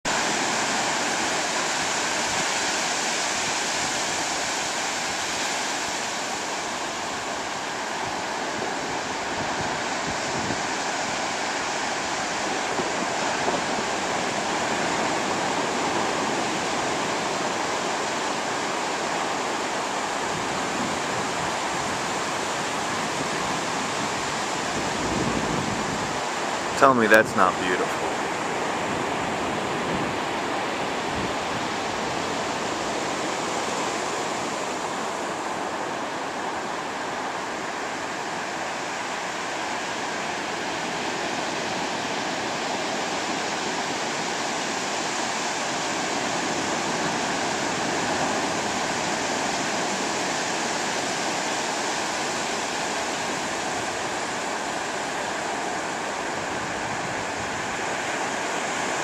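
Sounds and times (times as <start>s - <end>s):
ocean surf breaking on beach: 0.1s - 59.0s.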